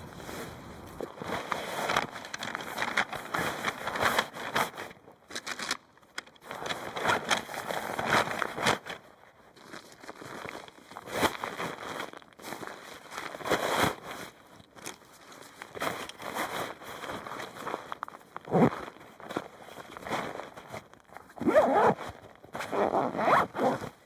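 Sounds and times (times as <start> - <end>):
material rustling and crinkling: 0.0 - 24.0.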